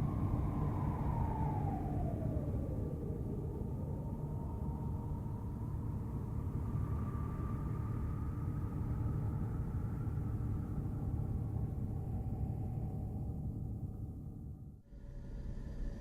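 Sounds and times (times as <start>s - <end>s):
deep rumbling drone: 0.0s - 16.0s.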